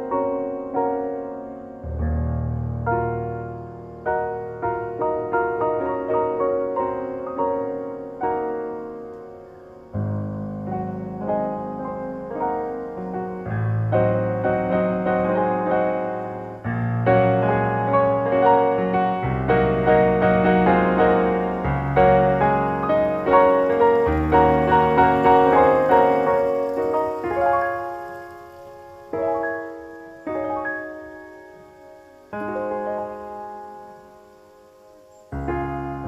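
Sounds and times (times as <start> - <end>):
gentle piano melody: 0.0 - 36.0.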